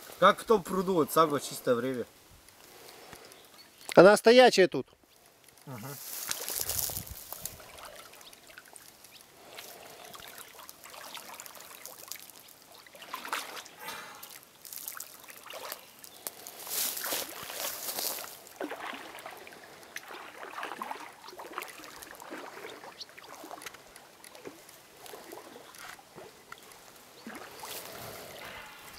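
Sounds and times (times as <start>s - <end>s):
shallow water splashing: 5.3s - 28.9s.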